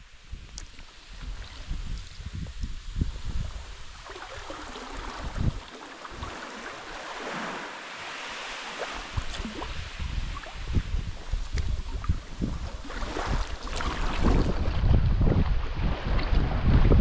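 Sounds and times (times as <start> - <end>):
wind buffeting microphone: 0.0 - 7.6, 8.8 - 17.0
water rushing along kayak hull: 0.0 - 17.0.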